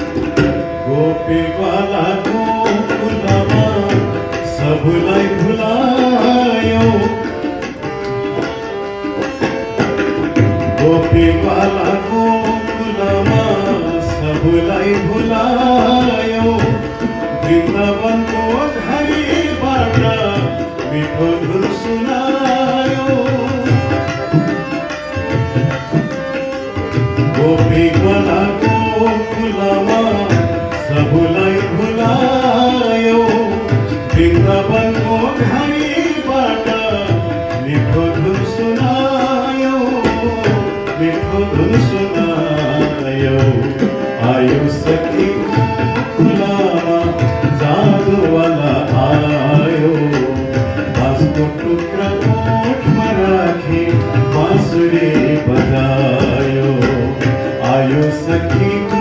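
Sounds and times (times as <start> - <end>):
man singing: 0.0 - 7.8, 9.9 - 59.0
harmonium melody: 0.0 - 59.0
tabla rhythm: 0.0 - 59.0.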